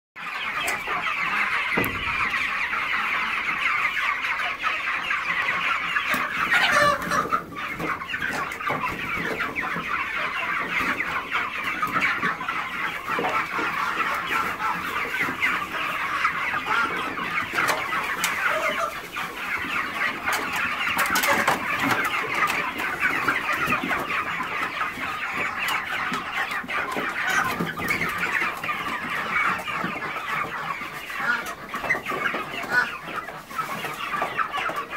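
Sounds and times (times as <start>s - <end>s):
flock of chickens calling: 0.2s - 34.9s.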